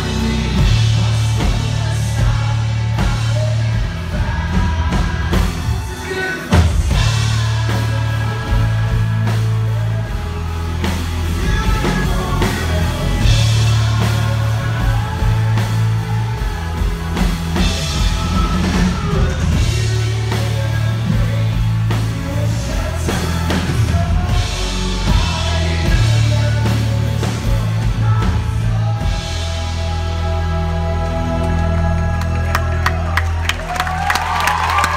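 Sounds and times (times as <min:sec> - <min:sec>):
drum kit: 0:00.0 - 0:34.9
heavy bass line: 0:00.0 - 0:34.9
lead singer: 0:00.0 - 0:34.9
live pop-rock band: 0:00.0 - 0:34.9.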